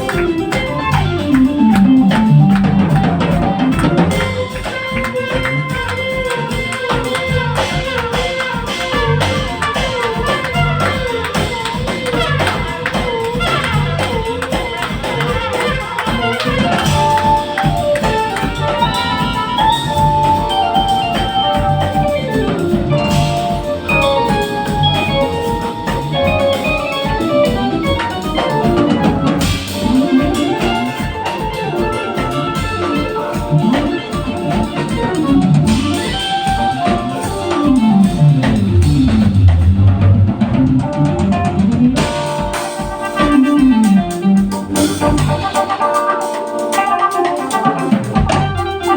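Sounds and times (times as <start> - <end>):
band playing: 0.0 - 48.9
drums: 0.0 - 48.9
guitar: 0.0 - 48.9
organ-like keyboard: 0.0 - 48.9.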